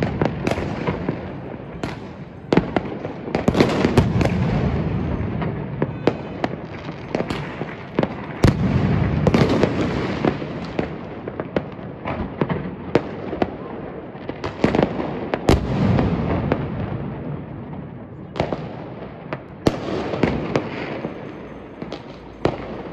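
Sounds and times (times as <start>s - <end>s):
fireworks bangs and crackles: 0.0s - 22.9s
rolling rumble of fireworks: 0.0s - 22.9s.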